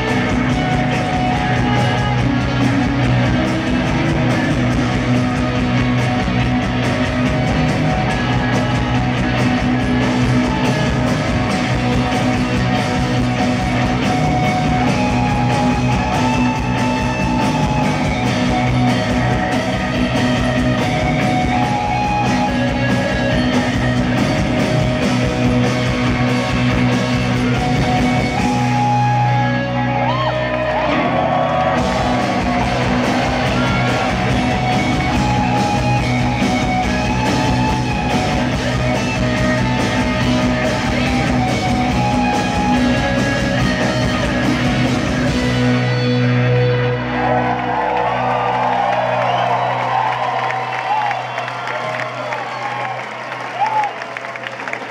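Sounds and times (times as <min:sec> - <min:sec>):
live rock band playing: 0:00.0 - 0:53.9
drums: 0:00.0 - 0:54.9
electric guitars: 0:00.0 - 0:54.9.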